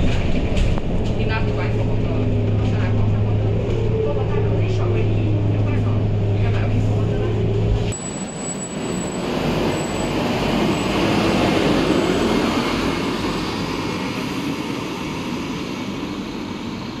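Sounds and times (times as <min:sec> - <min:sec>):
tyre noise on road: 0:00.0 - 0:13.8
diesel bus engine: 0:00.0 - 0:17.0.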